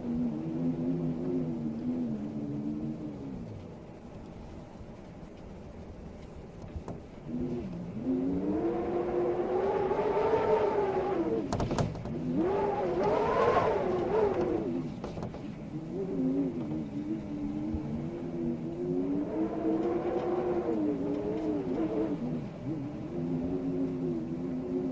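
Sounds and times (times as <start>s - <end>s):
wind howling in gusts: 0.0s - 24.9s.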